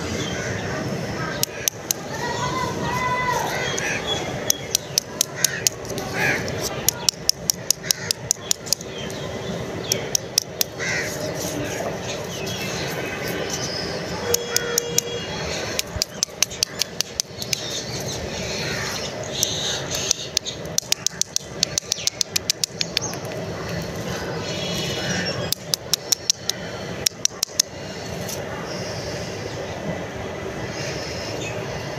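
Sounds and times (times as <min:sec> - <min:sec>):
steady background hiss: 0:00.0 - 0:31.9.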